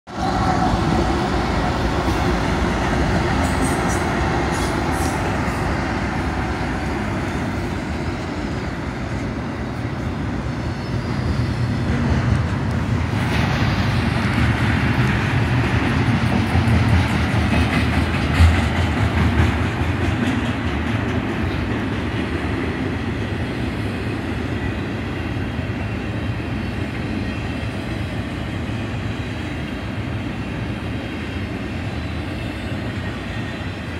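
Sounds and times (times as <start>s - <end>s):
diesel locomotives passing: 0.1s - 33.9s
freight cars rumbling on rails: 0.1s - 33.9s.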